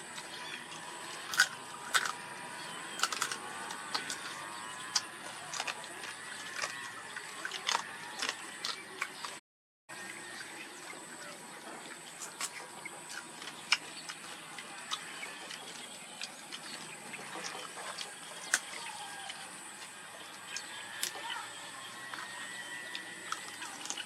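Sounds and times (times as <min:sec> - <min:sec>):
person chewing and sucking crab: 0:00.0 - 0:09.4, 0:11.8 - 0:24.0
shell and teeth clicking: 0:00.2 - 0:09.4, 0:12.2 - 0:21.2, 0:22.0 - 0:24.0.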